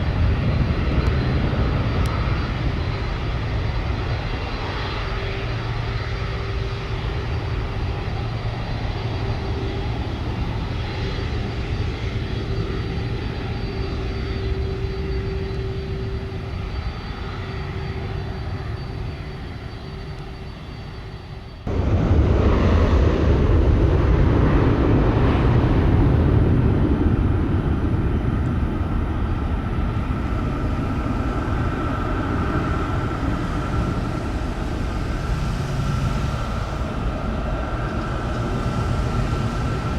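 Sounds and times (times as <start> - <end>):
high whine: 0.0 - 39.9
jet engines running: 0.0 - 39.9.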